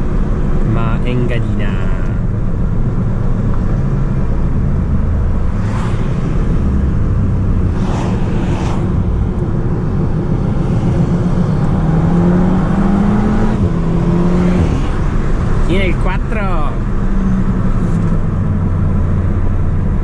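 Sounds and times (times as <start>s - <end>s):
car engine drone: 0.0s - 20.0s
road noise: 0.0s - 20.0s.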